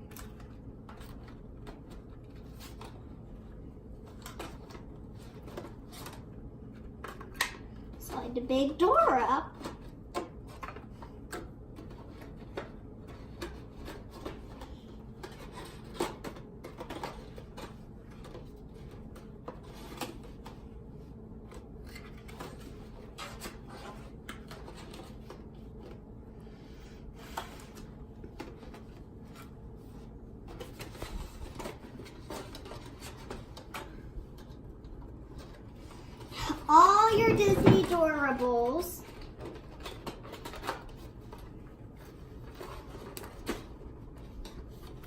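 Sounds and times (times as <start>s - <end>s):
low background hum: 0.0s - 45.0s.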